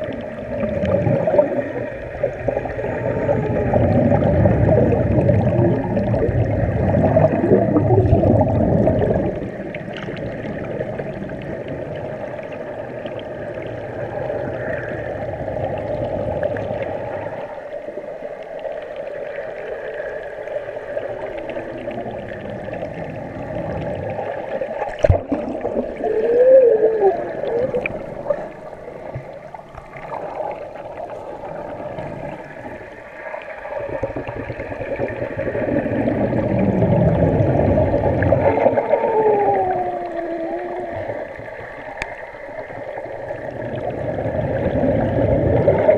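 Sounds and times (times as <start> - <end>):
muffled underwater hum: 0.0 - 45.9
underwater bubbles and kicking: 0.0 - 45.9.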